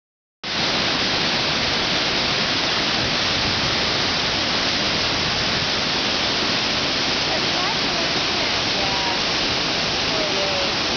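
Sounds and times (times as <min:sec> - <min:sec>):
waterfall rushing: 0:00.4 - 0:10.9.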